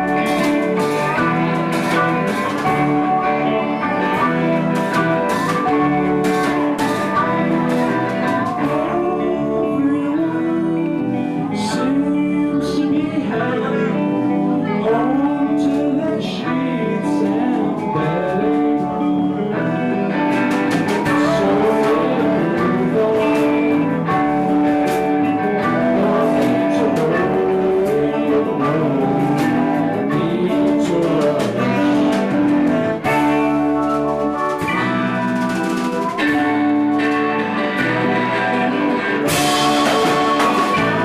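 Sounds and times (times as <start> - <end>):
drums and cymbals: 0.0 - 12.2, 17.0 - 41.0
electric guitars: 0.0 - 41.0
person singing: 0.0 - 41.0.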